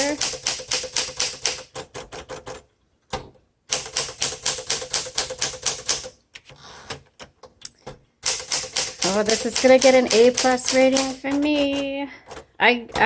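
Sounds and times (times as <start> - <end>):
manual typewriter typing: 0.0 - 13.0.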